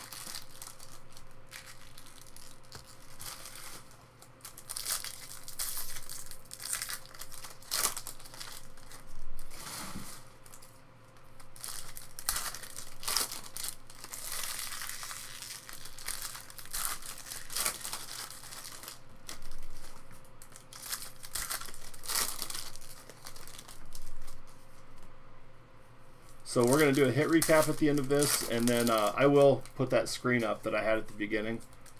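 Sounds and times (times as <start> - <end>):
foil wrappers crinkling and tearing: 0.0 - 10.8, 11.4 - 25.0, 26.3 - 31.9.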